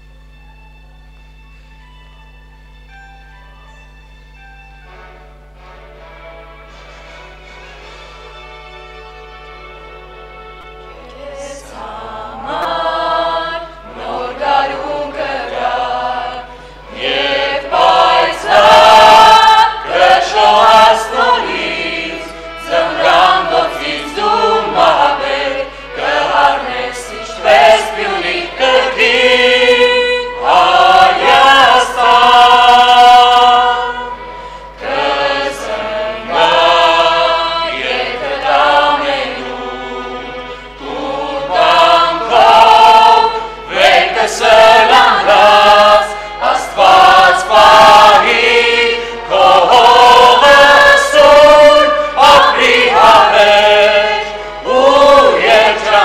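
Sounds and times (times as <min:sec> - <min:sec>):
choir singing: 0:10.6 - 0:56.0.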